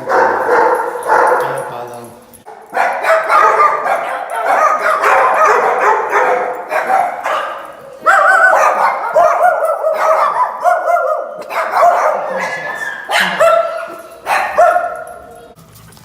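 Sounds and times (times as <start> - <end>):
dog barking high-pitched: 0.0 - 1.7, 2.4 - 15.5.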